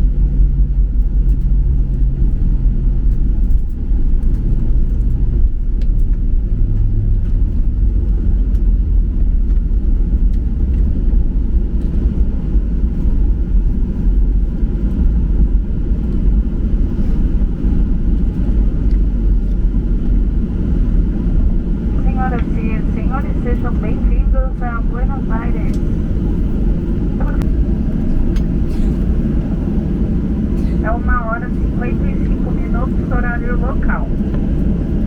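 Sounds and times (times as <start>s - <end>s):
aircraft cabin low rumble: 0.0s - 35.0s.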